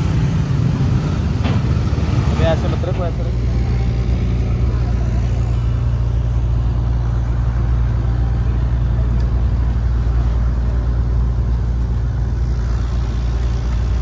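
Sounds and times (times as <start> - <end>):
ferry engine droning: 0.0 - 14.0.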